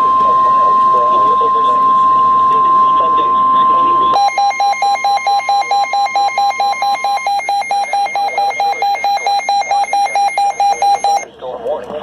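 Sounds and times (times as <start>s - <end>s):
rapid pulsed beeps: 0.0s - 11.2s
steady high tone: 0.0s - 11.3s.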